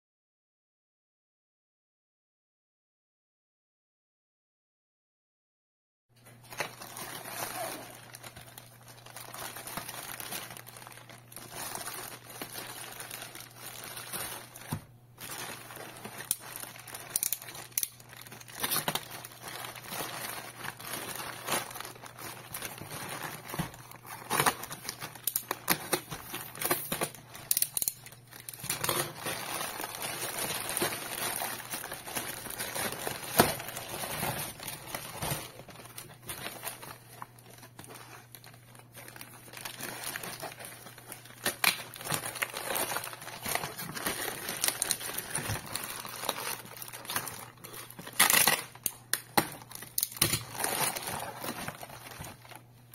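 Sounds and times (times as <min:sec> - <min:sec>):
plastic mailer bag crinkling: 0:06.2 - 0:52.9.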